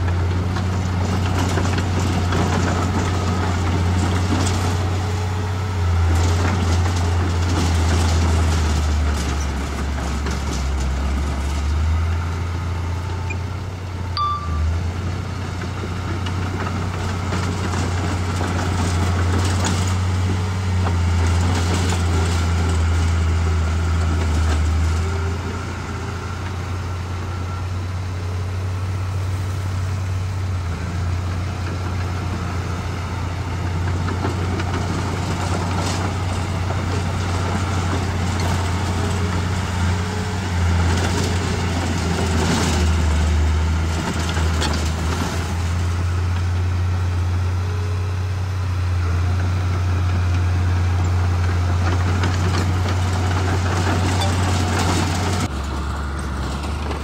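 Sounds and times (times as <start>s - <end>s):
heavy diesel engine humming: 0.0s - 57.0s.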